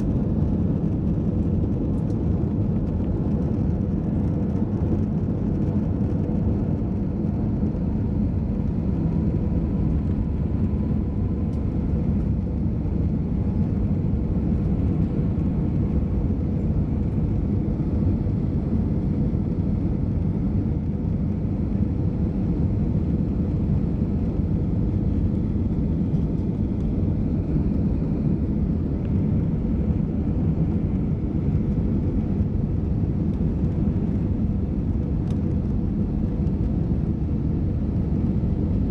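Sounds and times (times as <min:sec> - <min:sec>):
jet engine cabin drone: 0:00.0 - 0:38.9.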